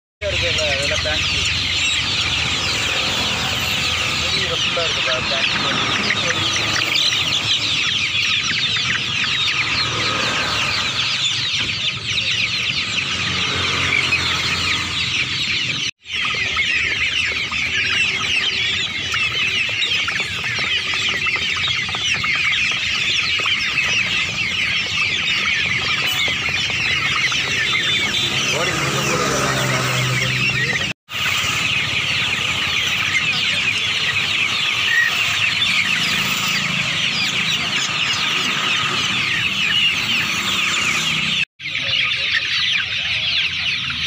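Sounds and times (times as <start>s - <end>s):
chicks peeping and cheeping: 0.2s - 44.0s.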